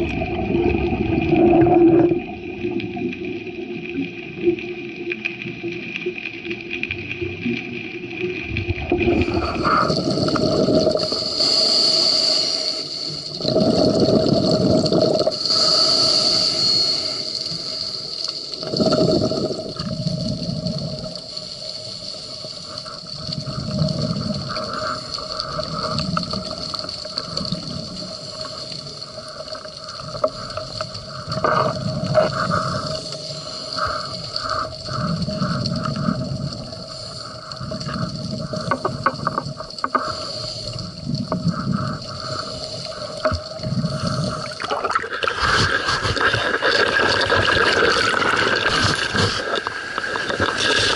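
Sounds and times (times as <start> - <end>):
exhaled bubbles from regulator: 0.0 - 4.8, 7.8 - 50.9
scuba inhales: 9.1 - 39.0, 39.8 - 50.9.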